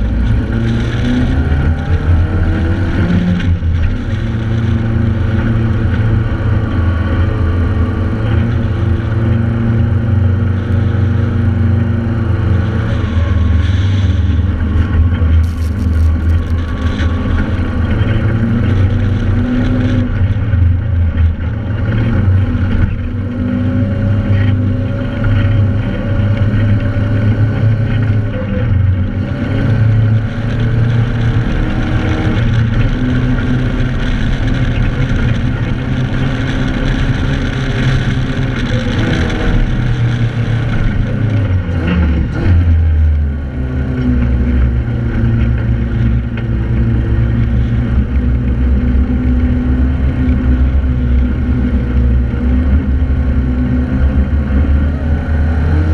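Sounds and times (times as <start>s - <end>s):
off-road vehicle engine running hard: 0.0s - 55.9s.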